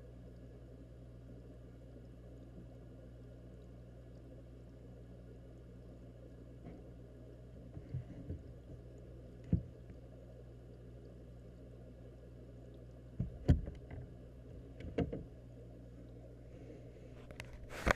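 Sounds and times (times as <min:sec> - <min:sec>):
underwater aquarium equipment hum: 0:00.0 - 0:17.9.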